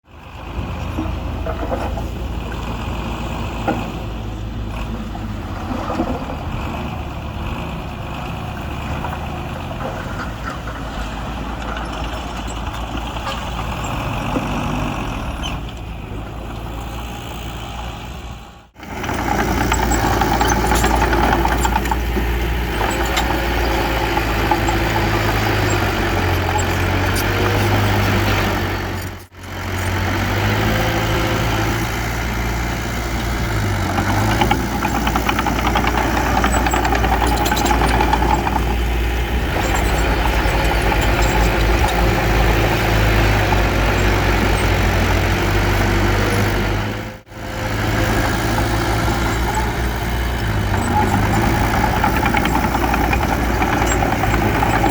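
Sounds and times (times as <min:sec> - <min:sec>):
diesel machinery engine hum: 0:00.0 - 0:54.9.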